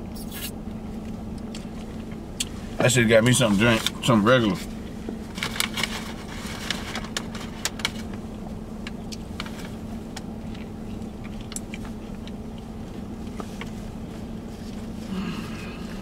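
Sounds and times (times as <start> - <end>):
low hum in car cabin: 0.0 - 16.0.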